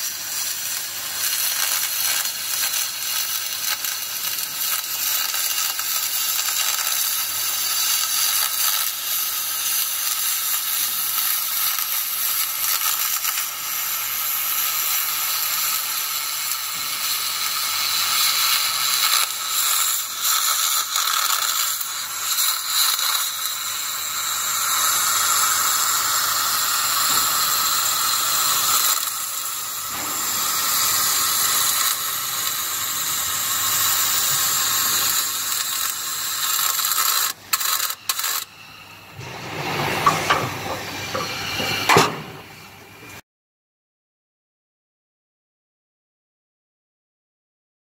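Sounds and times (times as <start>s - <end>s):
welding arc hissing: 0.0s - 43.2s.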